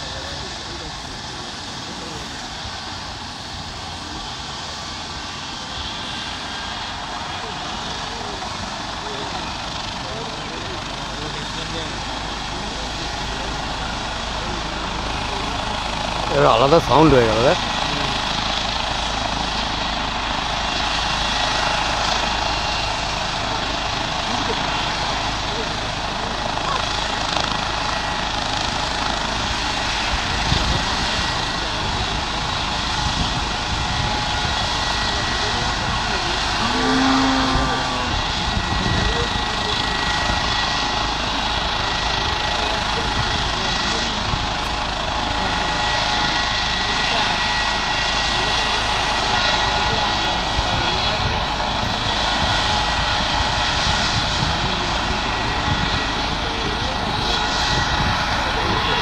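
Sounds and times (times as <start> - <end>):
helicopter turbine and rotor: 0.0 - 59.0
high turbine whine: 0.0 - 59.0.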